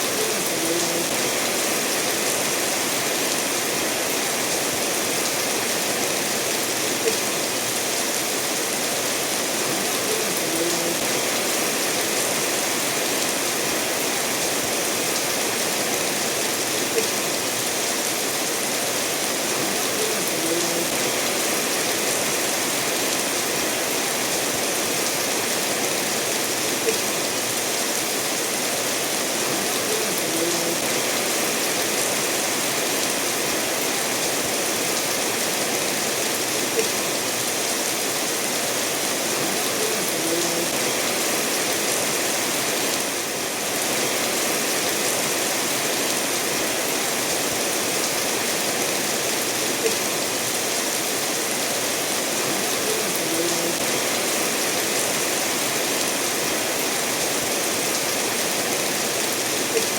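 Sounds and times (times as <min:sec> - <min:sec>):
steady rainfall: 0:00.0 - 0:59.9
stream running over stones: 0:00.0 - 0:59.9.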